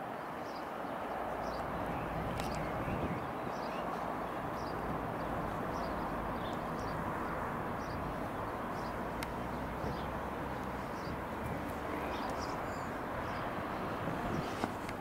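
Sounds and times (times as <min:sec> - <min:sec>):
distant helicopter drone: 0:01.0 - 0:15.0.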